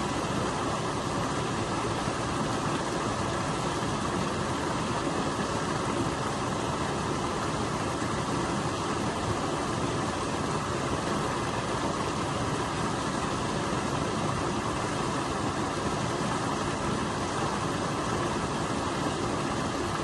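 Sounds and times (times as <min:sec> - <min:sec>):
stream water rushing over waterfall: 0:00.0 - 0:20.0.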